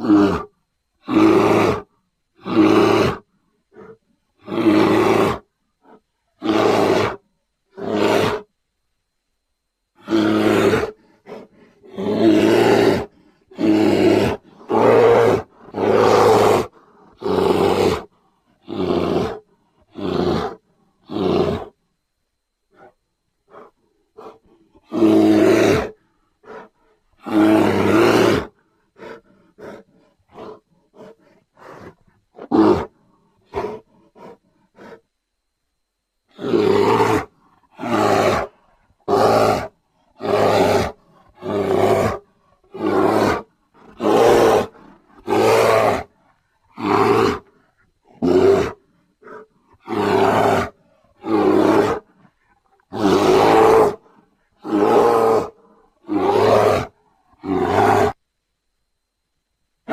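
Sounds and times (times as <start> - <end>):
bear grunting: 0.0 - 8.5, 10.0 - 21.8, 22.7 - 35.0, 36.3 - 58.2
bear roaring and growling: 0.0 - 8.5, 10.0 - 21.8, 23.5 - 35.0, 36.3 - 58.2.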